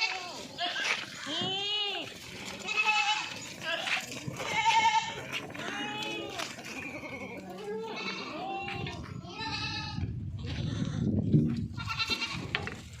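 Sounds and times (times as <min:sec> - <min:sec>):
goats bleating: 0:00.0 - 0:11.1, 0:11.8 - 0:12.7.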